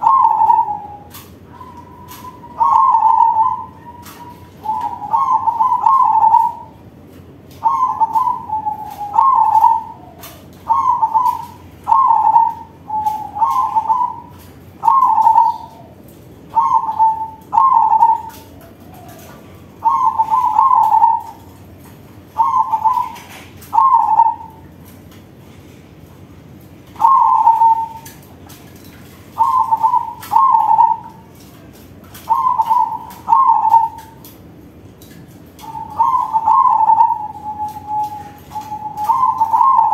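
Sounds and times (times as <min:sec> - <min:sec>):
dove cooing: 0:00.0 - 0:06.9, 0:07.5 - 0:24.9, 0:26.8 - 0:34.4, 0:35.2 - 0:39.9.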